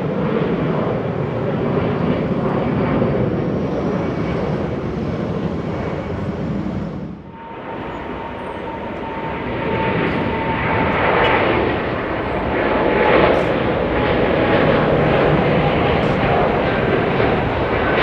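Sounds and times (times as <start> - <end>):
jet engines roaring: 0.0 - 18.0
steady engine whine: 0.0 - 18.0.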